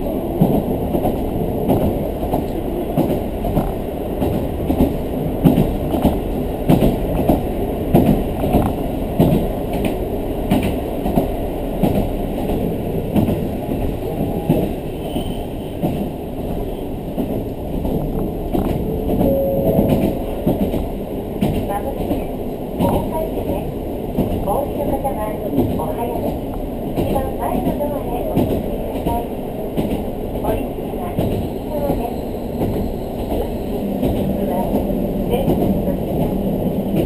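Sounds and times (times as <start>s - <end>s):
train rumbling in motion: 0.0s - 37.0s
wheels knocking on rails: 0.4s - 14.8s, 15.8s - 32.0s.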